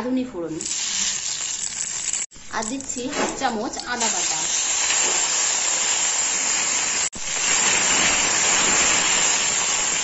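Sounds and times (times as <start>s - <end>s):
ginger paste sizzling in hot oil: 0.5s - 10.0s.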